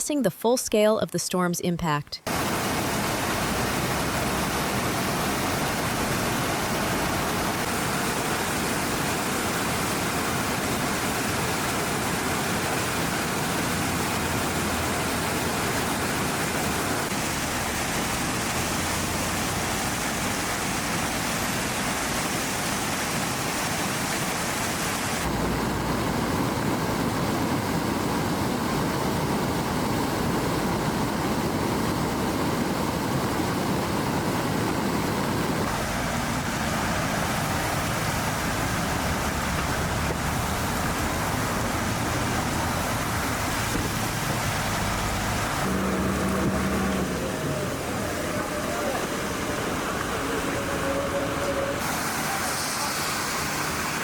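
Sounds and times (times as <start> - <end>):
floodwater rushing: 2.3 - 54.0.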